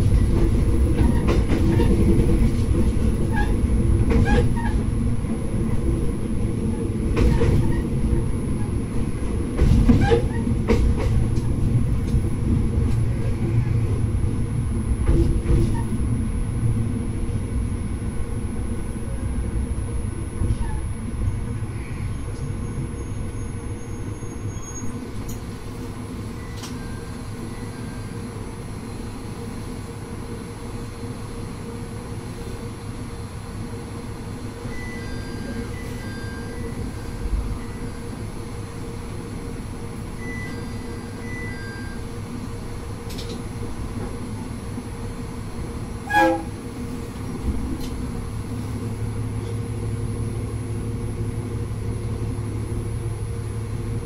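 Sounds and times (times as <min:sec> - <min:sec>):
wheel and rail noise: 0:00.0 - 0:28.5, 0:34.6 - 0:54.0
diesel engine drone: 0:00.0 - 0:54.0.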